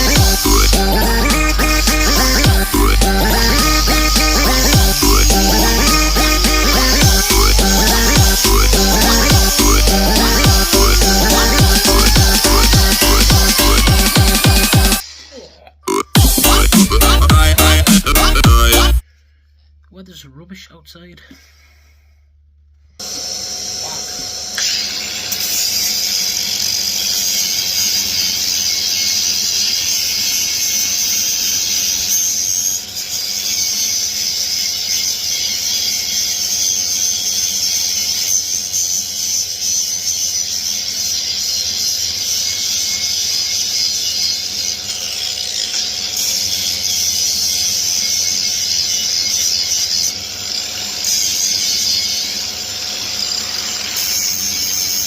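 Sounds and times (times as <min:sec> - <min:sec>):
angle grinder grinding wood: 0:00.0 - 0:19.0, 0:23.0 - 0:55.0.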